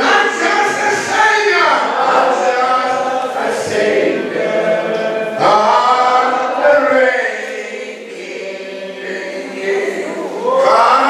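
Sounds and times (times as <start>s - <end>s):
congregation singing: 0.0s - 11.0s.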